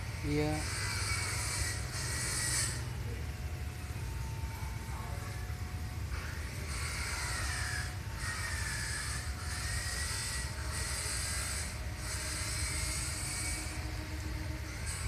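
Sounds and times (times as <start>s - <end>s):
high hissing buzz pulses: 0.0s - 15.0s.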